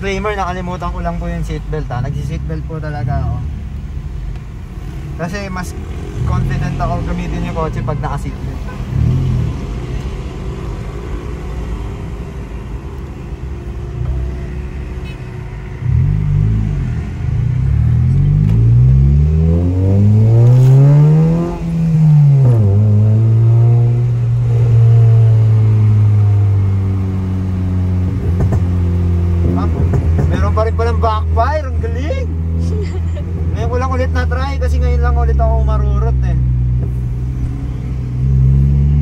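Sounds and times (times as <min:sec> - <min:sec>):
car engine and exhaust revving: 0:00.0 - 0:39.0.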